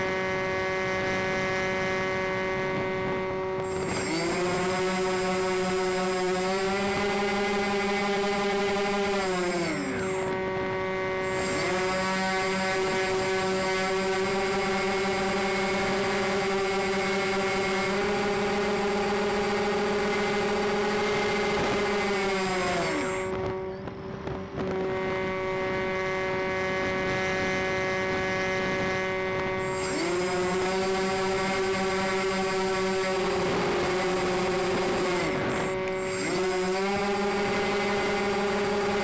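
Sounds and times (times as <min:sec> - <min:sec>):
model plane motors droning: 0:00.0 - 0:39.0.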